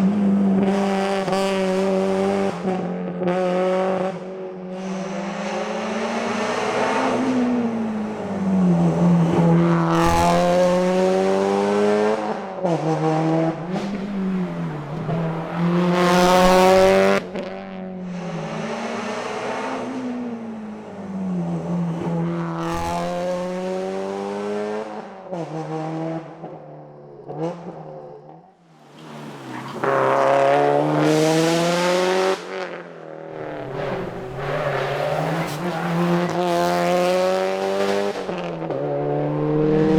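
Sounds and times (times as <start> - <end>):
car engine revving hard: 0.0 - 26.5, 28.8 - 39.9.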